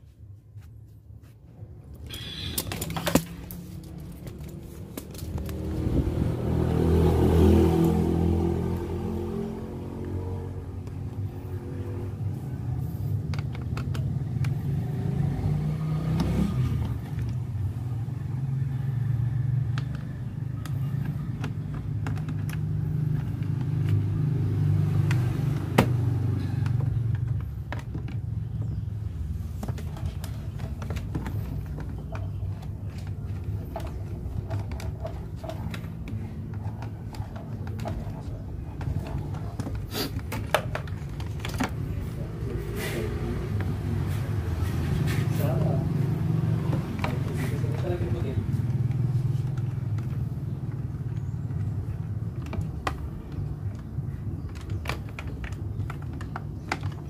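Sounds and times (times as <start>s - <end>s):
vehicle engine running: 2.1s - 57.0s.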